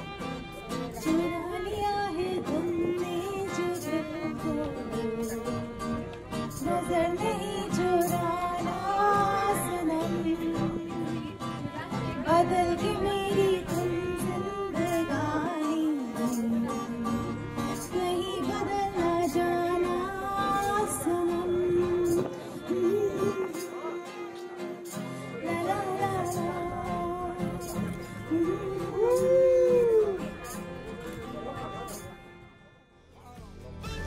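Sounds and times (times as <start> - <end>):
guitar: 0.0 - 34.0
violin: 0.0 - 34.0
woman singing: 0.8 - 30.3.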